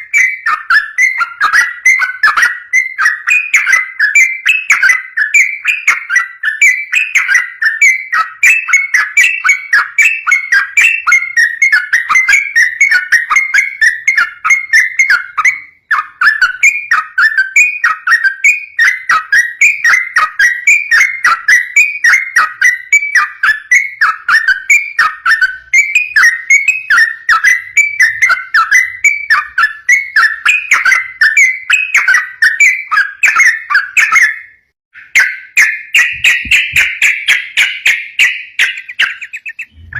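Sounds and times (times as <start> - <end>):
bird singing rapid whistled notes: 0.0 - 39.9.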